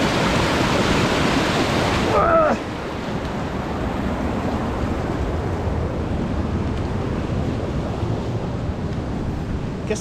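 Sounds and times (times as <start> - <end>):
creek water rushing: 0.0 - 10.0
wind rumbling on microphone: 0.0 - 10.0.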